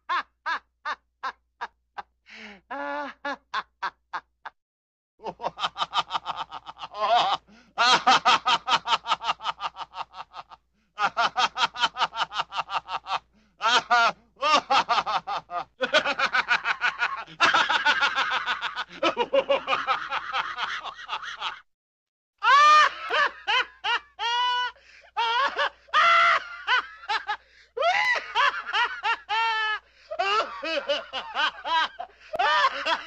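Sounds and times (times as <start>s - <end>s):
man laughing: 0.1s - 4.6s, 5.2s - 21.6s, 22.4s - 33.0s.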